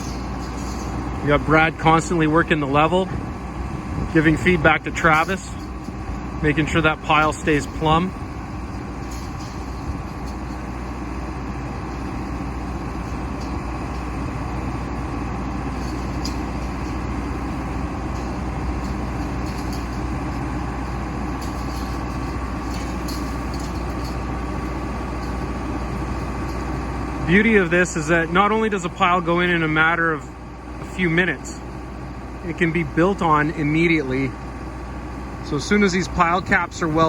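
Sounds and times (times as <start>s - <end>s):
constant low hum: 0.0s - 37.0s
heavy machine engine under load: 0.0s - 37.0s.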